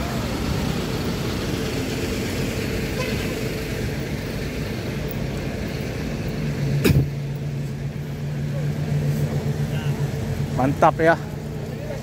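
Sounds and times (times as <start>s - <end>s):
bus engine driving past: 0.0s - 12.0s.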